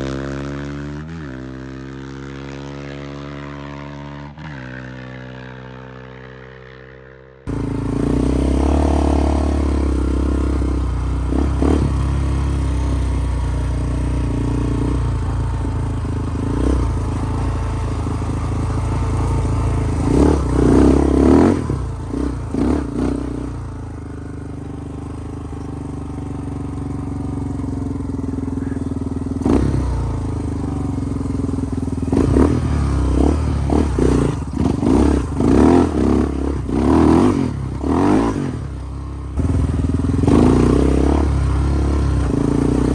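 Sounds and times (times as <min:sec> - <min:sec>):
single-cylinder engine revving: 0:07.4 - 0:42.9.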